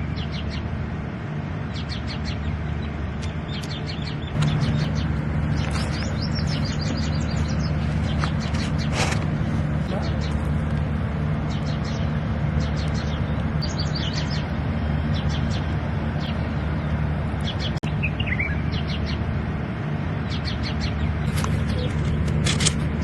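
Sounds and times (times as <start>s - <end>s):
birds chirping: 0.0s - 23.0s
low hum: 0.0s - 23.0s.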